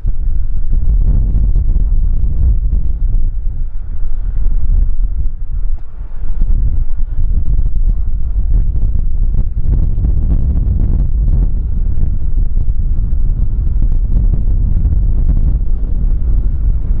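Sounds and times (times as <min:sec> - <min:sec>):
airliner jet engines: 0:00.0 - 0:17.0
wind buffeting microphone: 0:00.0 - 0:17.0.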